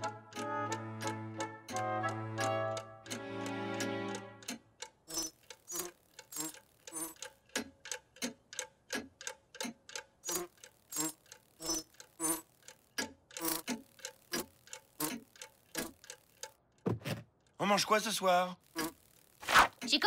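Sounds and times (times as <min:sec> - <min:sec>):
clock ticking: 0:00.0 - 0:20.0.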